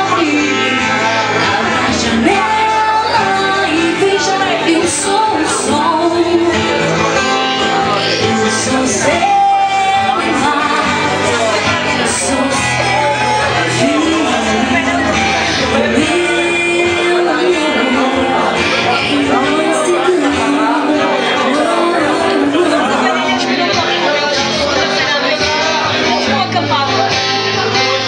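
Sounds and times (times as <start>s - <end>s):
woman singing slow melody: 0.0s - 7.1s, 7.8s - 23.9s
strummed acoustic guitars: 0.0s - 28.0s.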